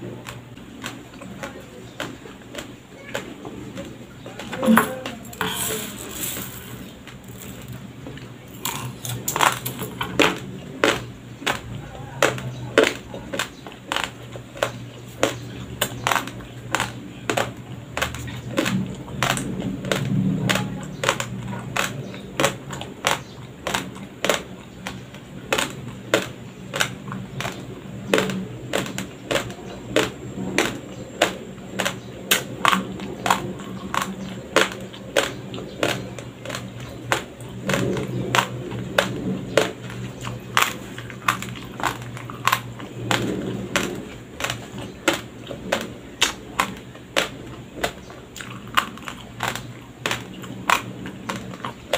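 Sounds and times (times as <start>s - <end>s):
crunchy chewing of raw rice: 0.0s - 51.9s.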